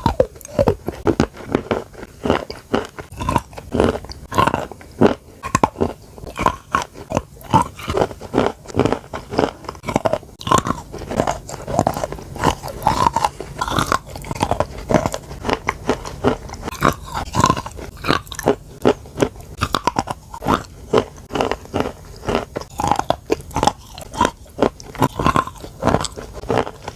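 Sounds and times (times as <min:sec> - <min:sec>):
person crunching chalk: 0:00.0 - 0:26.9.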